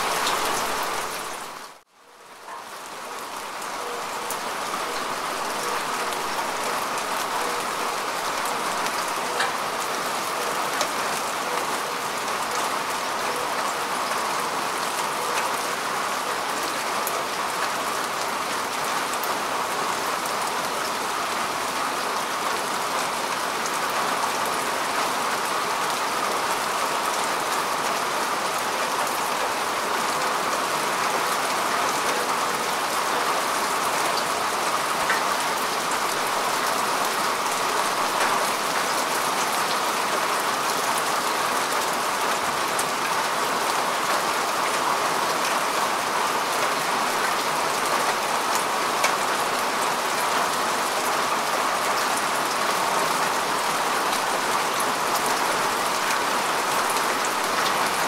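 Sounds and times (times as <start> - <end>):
rain falling on grass: 0.0 - 58.0.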